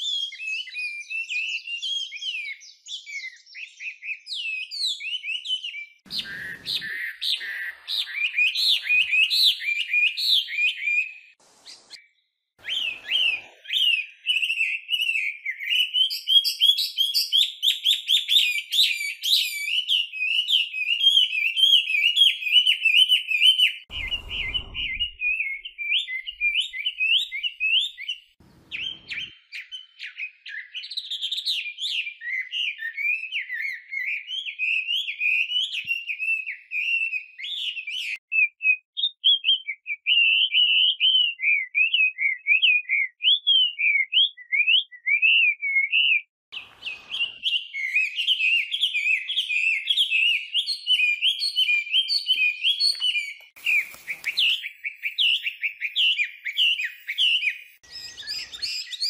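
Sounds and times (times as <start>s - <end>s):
bird singing whistled phrases: 0.0s - 59.0s.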